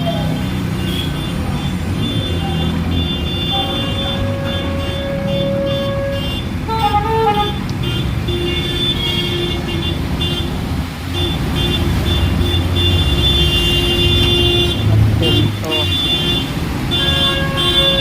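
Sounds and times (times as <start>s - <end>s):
traffic engine rumble: 0.0s - 18.0s
vehicle horns: 0.0s - 18.0s.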